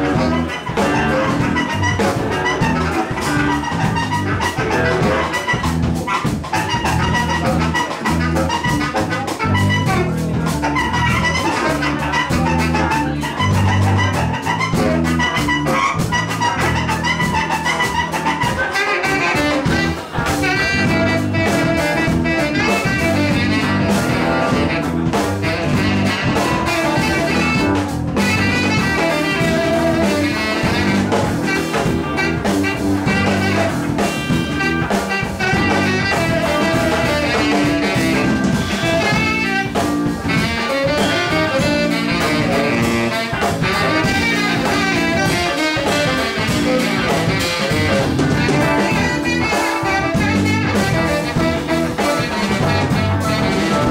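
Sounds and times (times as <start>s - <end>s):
brass horn: 0.0s - 53.9s
drum kit: 0.0s - 53.9s
electric guitar: 0.0s - 53.9s
saxophone: 0.0s - 53.9s.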